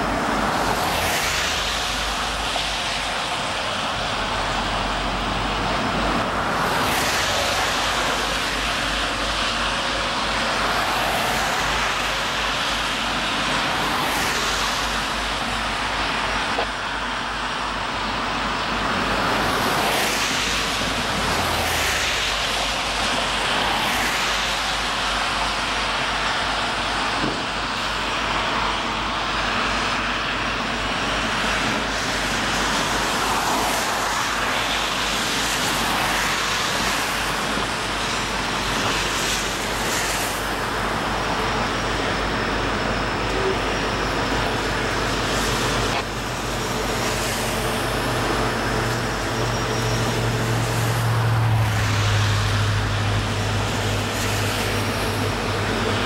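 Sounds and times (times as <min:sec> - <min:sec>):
diesel locomotive rumbling: 0:00.0 - 0:56.0.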